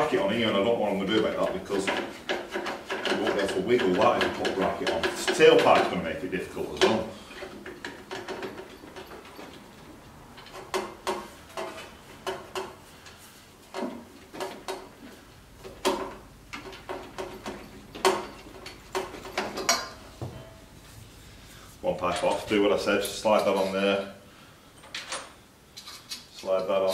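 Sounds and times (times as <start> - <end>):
metal exhaust pipes clinking: 0.0 - 14.9, 15.6 - 20.8, 22.0 - 24.0.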